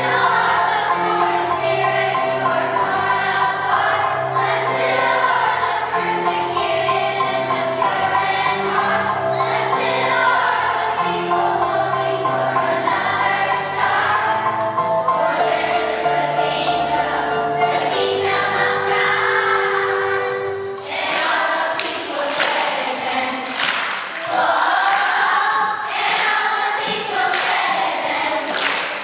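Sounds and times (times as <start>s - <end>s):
children's choir singing: 0.0s - 29.0s.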